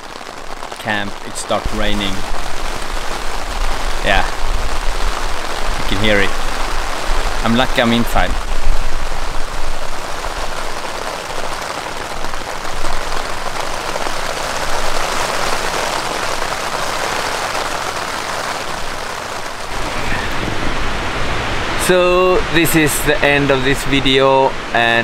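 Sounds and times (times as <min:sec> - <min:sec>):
rain on tent fabric: 0:00.0 - 0:25.0.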